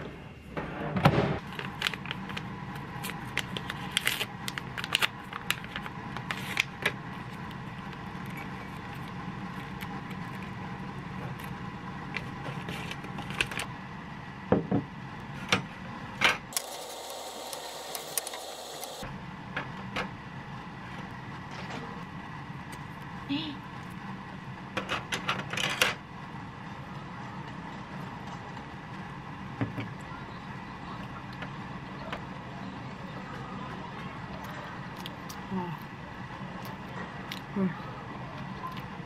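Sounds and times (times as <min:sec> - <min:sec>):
steady background hum: 0:00.0 - 0:39.0.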